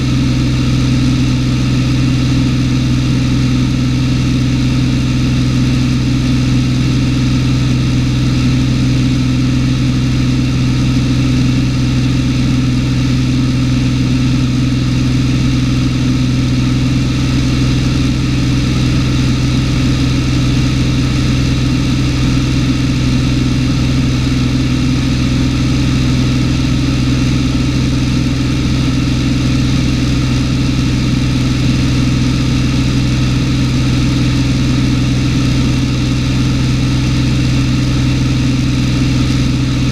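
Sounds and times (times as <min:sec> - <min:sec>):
plane engine droning in cabin: 0:00.0 - 0:39.9.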